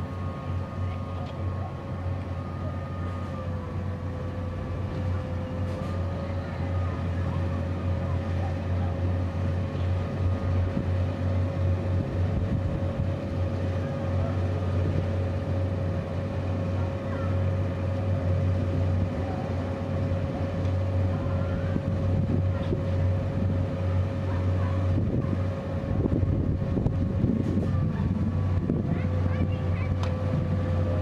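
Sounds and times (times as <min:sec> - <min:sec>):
electric locomotive hum: 0:00.0 - 0:31.0
thin steady whine: 0:00.0 - 0:31.0.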